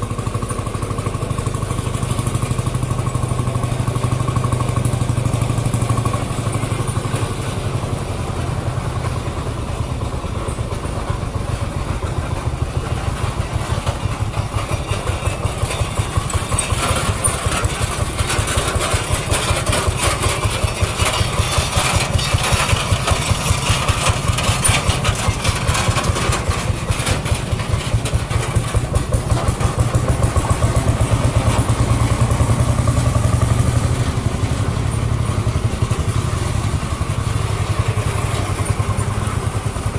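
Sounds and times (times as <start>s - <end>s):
old engine running: 0.0s - 39.9s.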